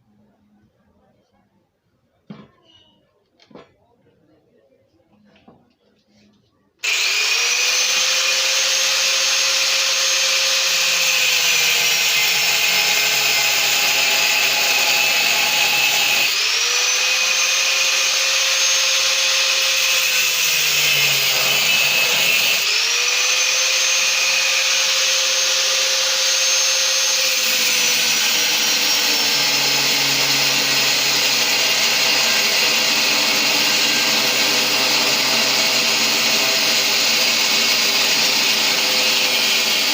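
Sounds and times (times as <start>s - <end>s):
angle grinder on metal: 6.8s - 39.9s.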